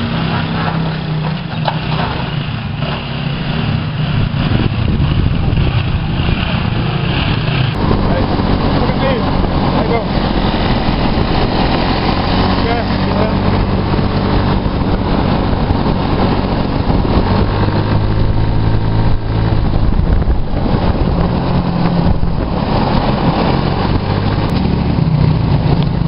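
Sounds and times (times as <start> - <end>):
buggy engine running: 0.0 - 26.0
road noise: 0.0 - 26.0
wind rush: 2.2 - 26.0.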